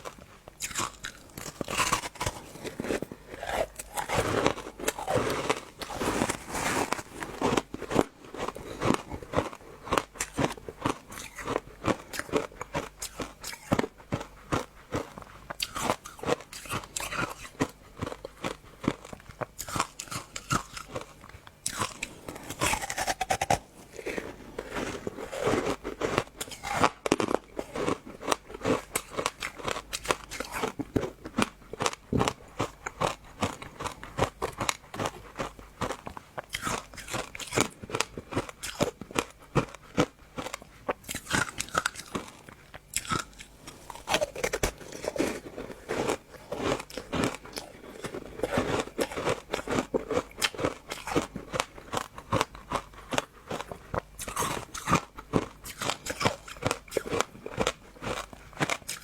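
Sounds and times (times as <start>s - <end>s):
crunchy biting and chewing: 0.0s - 59.0s.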